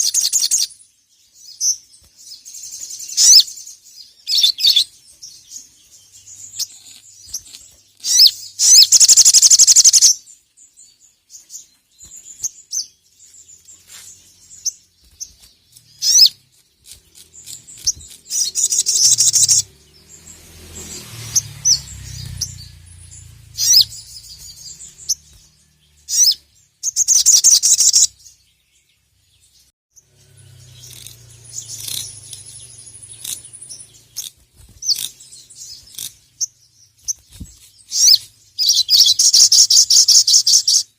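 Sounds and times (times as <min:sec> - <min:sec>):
songbird chattering: 0:00.0 - 0:00.8, 0:01.5 - 0:21.0, 0:21.6 - 0:28.6, 0:30.0 - 0:40.9
songbird chips and trills: 0:00.0 - 0:40.9.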